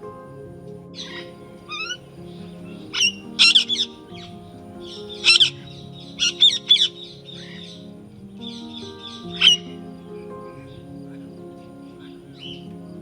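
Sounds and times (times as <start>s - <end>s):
soft background music: 0.0s - 13.0s
sharp bird calls: 1.0s - 13.0s.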